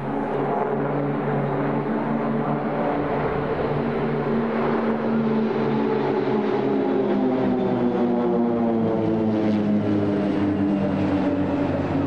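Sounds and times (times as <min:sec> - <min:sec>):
propeller aircraft drone overhead: 0:00.0 - 0:12.0.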